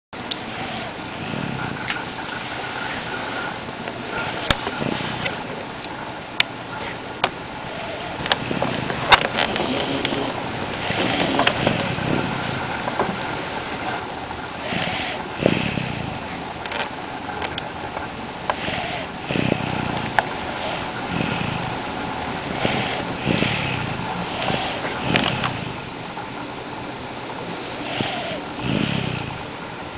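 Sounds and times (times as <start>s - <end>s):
baby snoring: 0.4s - 5.5s, 7.7s - 17.6s, 18.5s - 26.0s, 27.6s - 29.5s.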